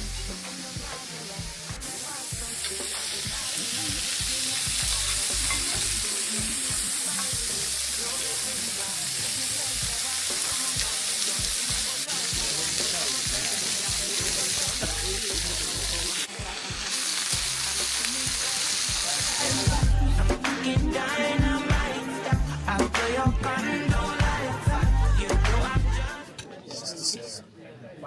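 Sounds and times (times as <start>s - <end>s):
food sizzling in frying: 0.0s - 24.4s.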